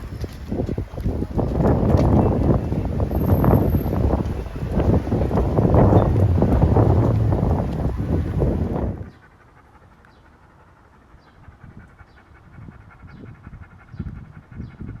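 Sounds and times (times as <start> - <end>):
wind noise on microphone: 0.0 - 9.2, 11.4 - 15.0
dog panting: 0.1 - 15.0.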